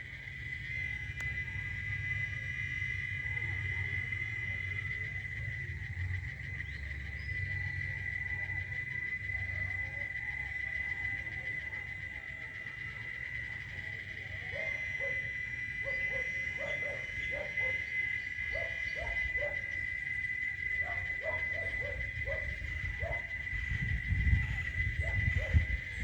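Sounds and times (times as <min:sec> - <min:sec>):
cicadas droning: 0:00.0 - 0:26.0
repeated animal calls: 0:00.0 - 0:26.0.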